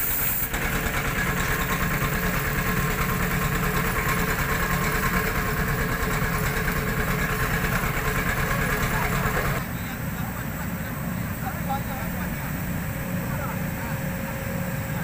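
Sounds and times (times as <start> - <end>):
diesel engine low throb: 0.0 - 15.0.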